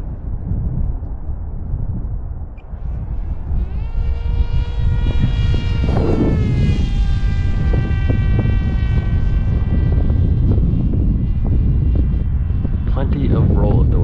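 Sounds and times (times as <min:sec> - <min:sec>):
electric motor propeller whine: 0:00.0 - 0:14.0
low rumble: 0:00.0 - 0:14.0.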